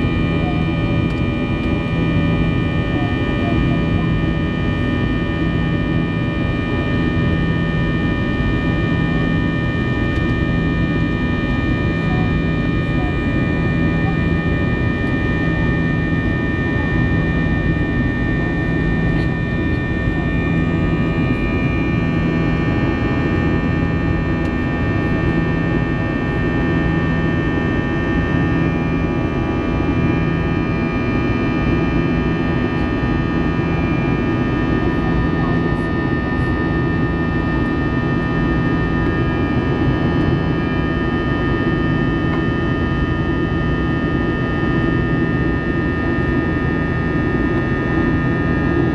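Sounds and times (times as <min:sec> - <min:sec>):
jet engines and airflow in cabin: 0:00.0 - 0:48.9
low pulsing hum: 0:00.0 - 0:48.9.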